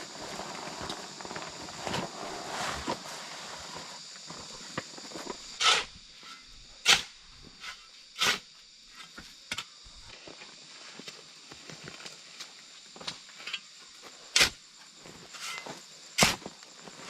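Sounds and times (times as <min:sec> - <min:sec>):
steady high-pitched hiss: 0:00.0 - 0:17.0.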